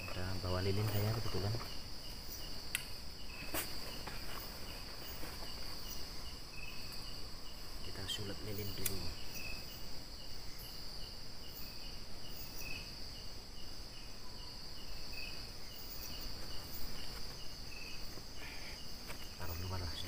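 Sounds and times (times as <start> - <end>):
crickets trilling: 0.0 - 20.0
insect chirping in pulses: 0.0 - 20.0.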